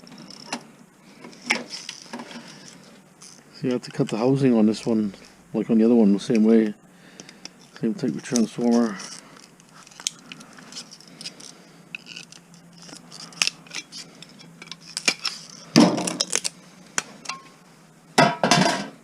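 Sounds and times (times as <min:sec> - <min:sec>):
rustling: 0:00.0 - 0:05.5, 0:06.2 - 0:17.3.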